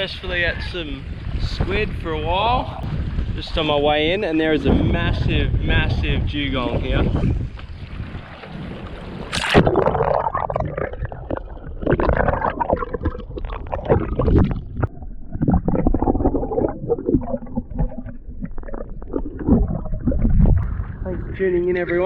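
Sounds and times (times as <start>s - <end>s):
water splashing and gurgling: 0.0s - 22.0s.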